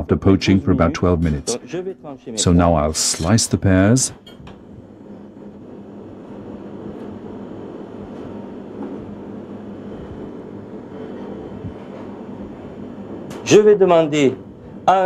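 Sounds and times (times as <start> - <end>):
low mechanical hum with air rush: 0.0 - 15.0.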